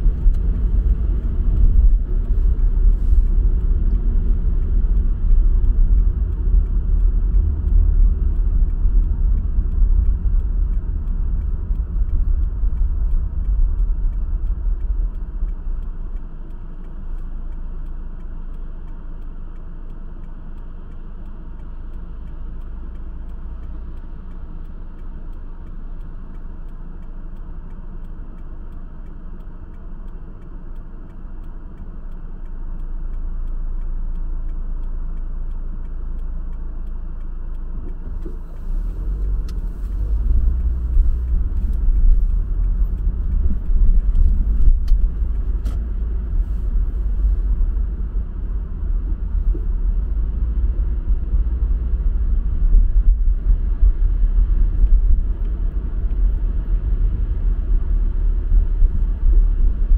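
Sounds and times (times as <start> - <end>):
car interior road rumble: 0.0 - 59.9.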